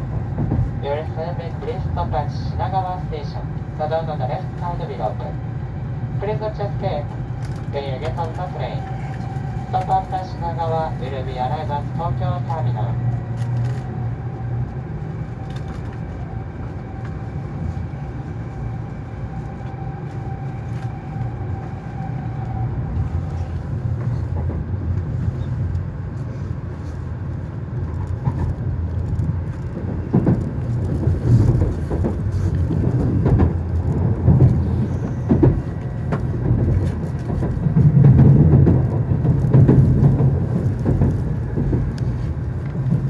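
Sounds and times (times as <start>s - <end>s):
train cabin rumble: 0.0s - 43.0s.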